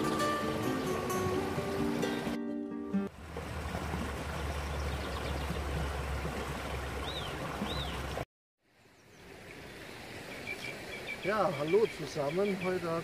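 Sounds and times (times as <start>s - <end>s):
stream running over stones: 0.0s - 2.4s, 3.1s - 13.0s.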